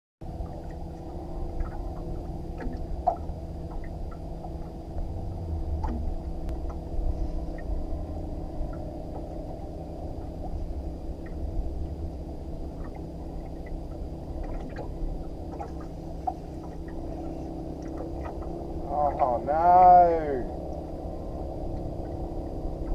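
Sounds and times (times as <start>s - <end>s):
boat motor humming: 0.2s - 22.9s
wind rumble: 0.2s - 22.9s.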